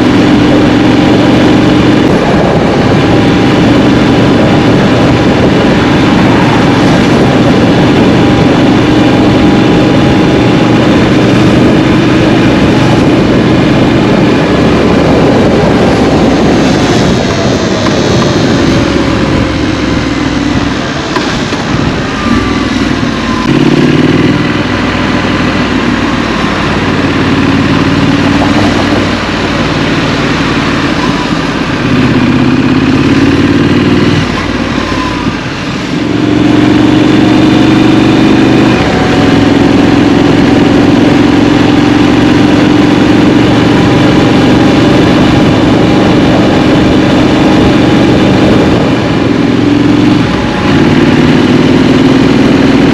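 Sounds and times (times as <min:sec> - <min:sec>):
motorcycle engine: 0:00.0 - 0:52.9
wind noise: 0:00.0 - 0:52.9.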